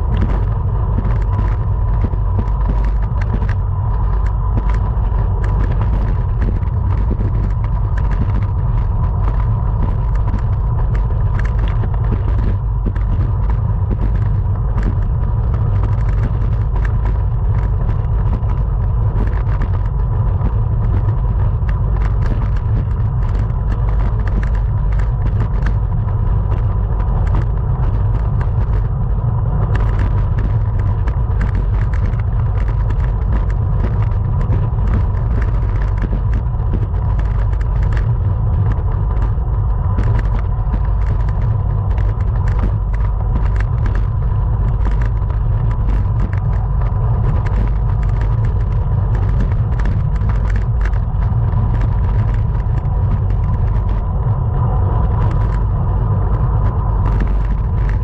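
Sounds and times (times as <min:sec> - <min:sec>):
bicycle ticks and rattles: 0:00.0 - 0:58.0
faint steady whine: 0:00.0 - 0:58.0
wind rumble on microphone: 0:00.0 - 0:58.0.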